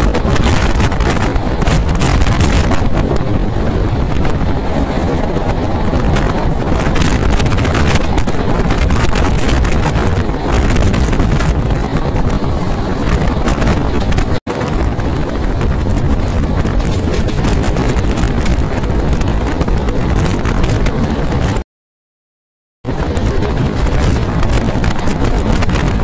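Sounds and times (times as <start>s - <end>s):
train rumbling at speed: 0.0s - 21.6s, 22.8s - 26.0s
wind buffeting microphone: 0.0s - 21.6s, 22.8s - 26.0s.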